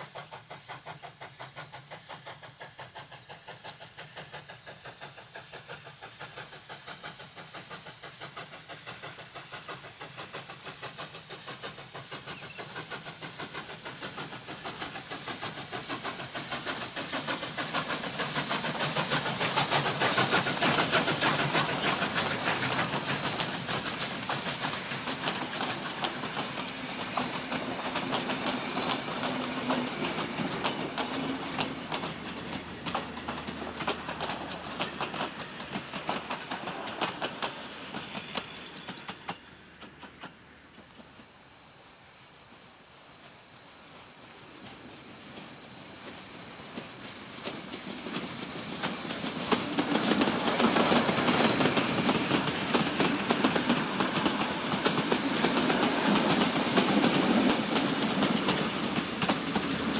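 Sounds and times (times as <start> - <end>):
train wheels clicking over rail joints: 0.0 - 41.6, 43.1 - 59.9
steam hissing: 0.0 - 59.9
steam locomotive exhaust beats: 0.0 - 59.9.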